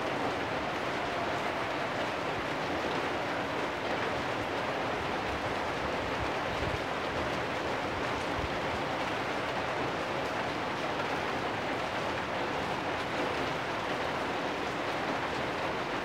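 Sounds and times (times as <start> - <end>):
rain on metal roofs: 0.0 - 16.0.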